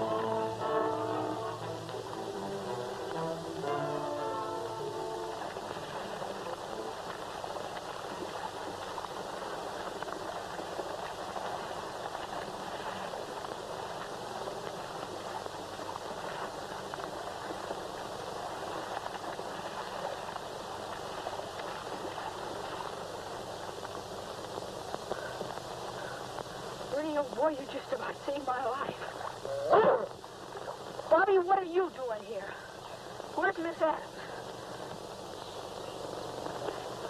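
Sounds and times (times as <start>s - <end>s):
water splashing and sloshing: 0.0s - 35.2s.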